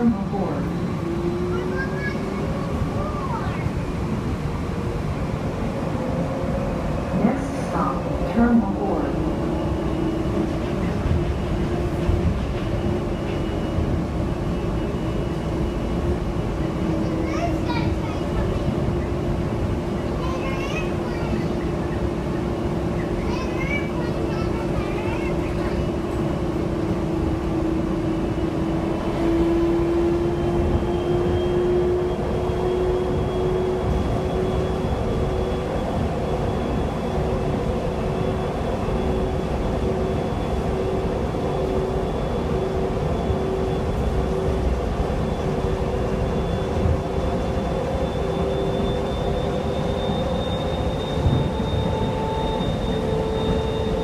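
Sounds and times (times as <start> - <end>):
train car running rumble: 0.0 - 54.0.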